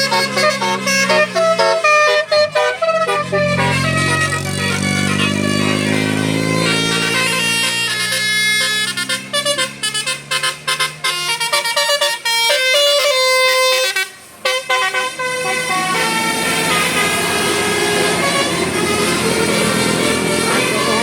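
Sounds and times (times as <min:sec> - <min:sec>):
musical air horn melody: 0:00.0 - 0:21.0.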